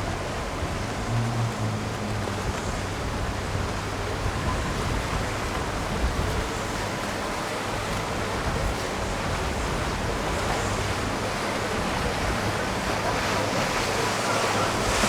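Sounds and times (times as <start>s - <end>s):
rushing water: 0.0s - 15.0s
wind buffeting microphone: 0.0s - 15.0s.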